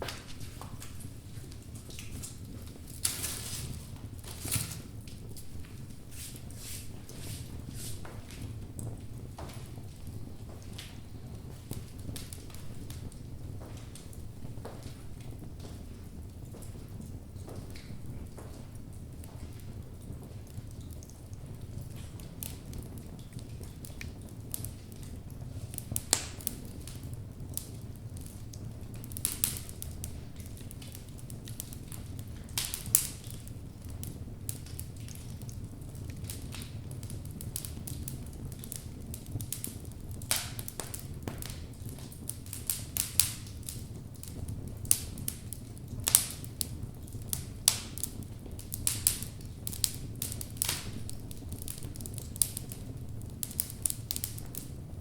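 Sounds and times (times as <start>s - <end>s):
fire flames rumbling: 0.0s - 55.0s
logs crackling and popping: 0.0s - 55.0s.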